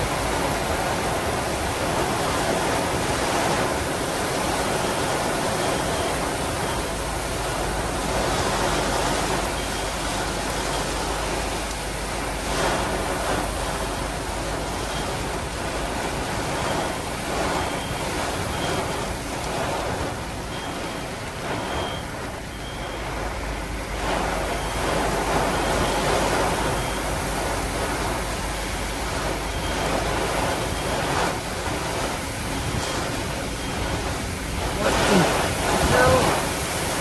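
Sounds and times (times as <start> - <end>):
heavy rain on a car roof: 0.0 - 37.0.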